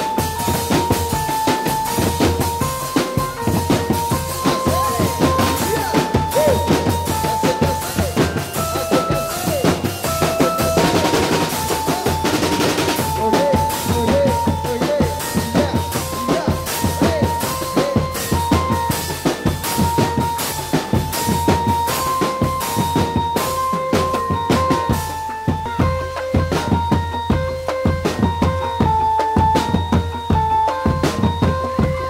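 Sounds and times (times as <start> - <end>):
drums beating fast rhythm: 0.0 - 32.0
melody of held notes: 0.0 - 32.0.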